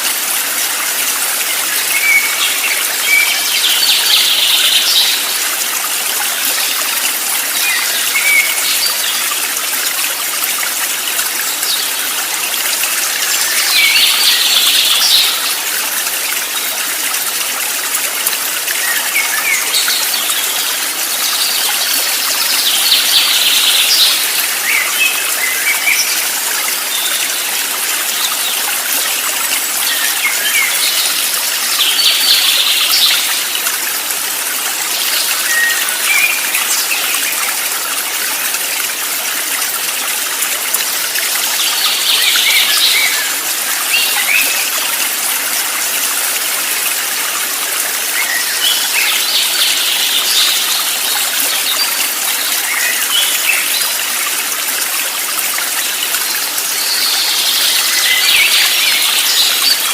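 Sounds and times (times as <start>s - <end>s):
flowing stream: 0.0s - 59.9s
birds singing: 1.4s - 17.1s, 18.6s - 34.0s, 34.6s - 38.5s, 41.0s - 45.1s, 46.6s - 54.5s, 55.6s - 59.9s.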